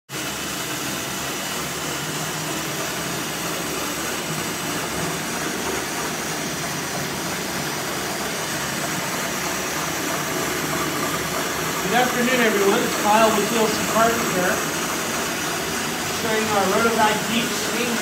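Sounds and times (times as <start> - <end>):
carpet extractor vacuum rushing: 0.1 - 18.0.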